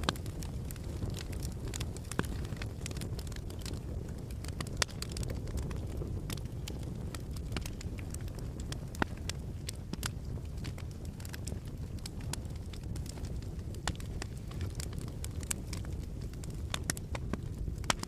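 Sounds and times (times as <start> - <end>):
loud fire pops: 0.0 - 18.0
wood fire crackling: 0.0 - 18.0.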